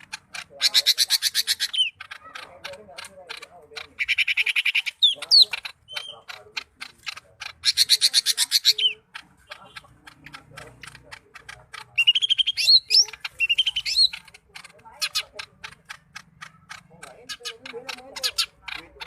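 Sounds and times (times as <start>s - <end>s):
bird singing varied song: 0.0s - 19.0s.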